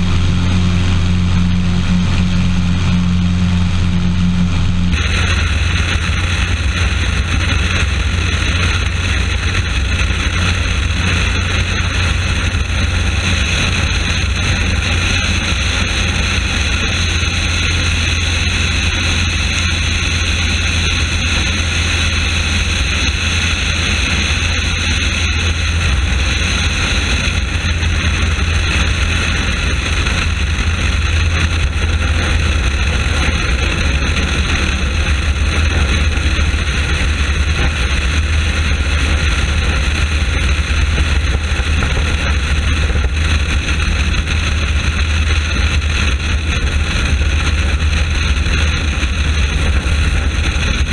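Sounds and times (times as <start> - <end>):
radial aircraft engine running: 0.0 - 50.9
wind rush over microphone: 0.0 - 50.9.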